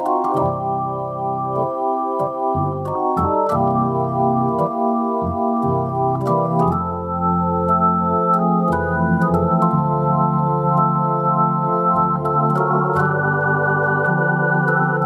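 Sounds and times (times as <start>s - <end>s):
organ chords: 0.0s - 15.0s
low bass notes: 0.1s - 15.0s.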